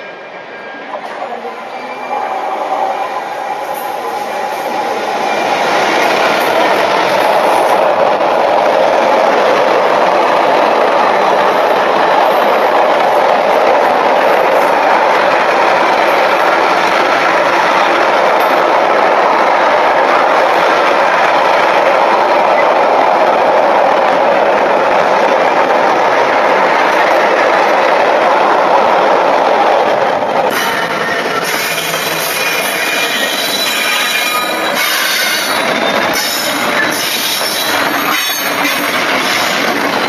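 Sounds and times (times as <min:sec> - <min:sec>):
freight train passing at speed: 0:00.0 - 0:40.0.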